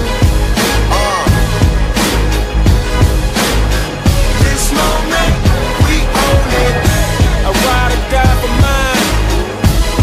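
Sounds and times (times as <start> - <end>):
hip hop music with heavy bass: 0.0 - 10.0.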